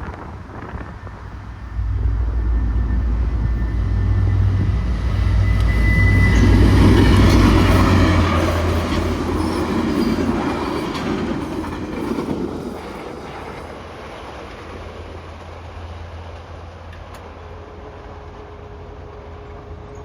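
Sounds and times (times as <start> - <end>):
train passing: 0.0 - 20.0.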